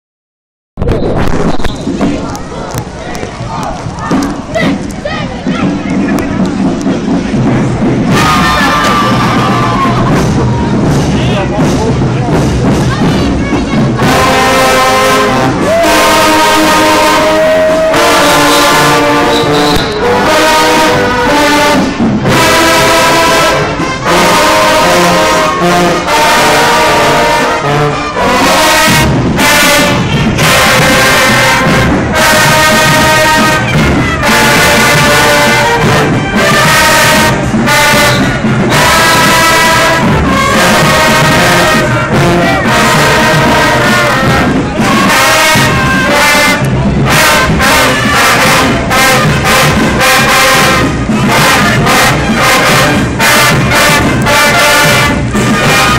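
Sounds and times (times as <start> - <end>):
marching band brass playing: 3.8 - 55.9.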